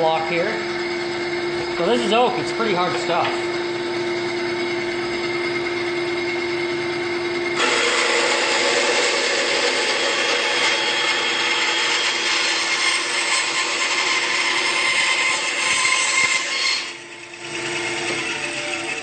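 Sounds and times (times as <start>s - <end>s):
band saw cutting wood: 0.0s - 19.0s.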